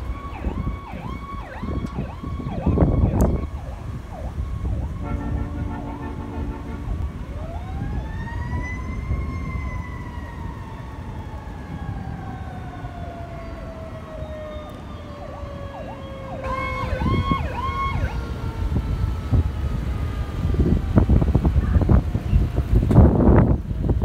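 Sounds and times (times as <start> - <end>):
siren whoops: 0.0 - 22.4
fire truck siren wailing: 0.0 - 24.0.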